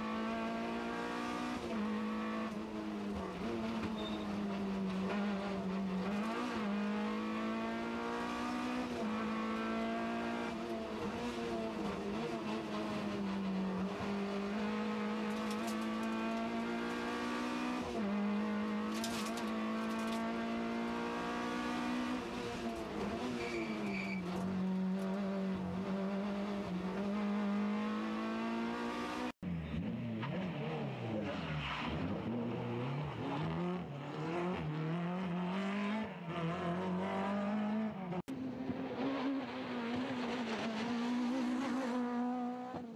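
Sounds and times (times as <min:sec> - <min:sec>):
car engine revving through gears: 0:00.0 - 0:42.9.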